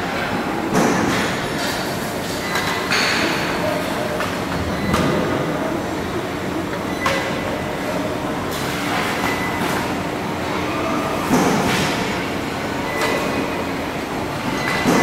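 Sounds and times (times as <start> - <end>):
industrial machinery hum: 0.0 - 15.0.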